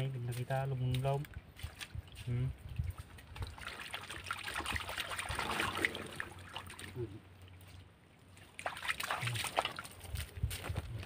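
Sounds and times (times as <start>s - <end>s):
water trickling: 0.8s - 10.6s
hands splashing in muddy water: 0.9s - 10.7s.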